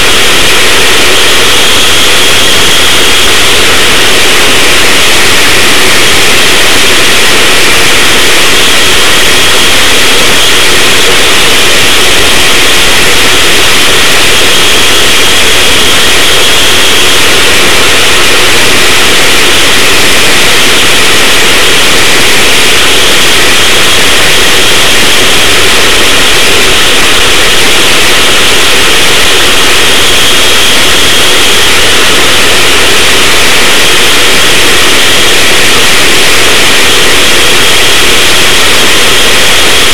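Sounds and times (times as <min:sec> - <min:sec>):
small engine running at speed: 0:00.0 - 0:39.9.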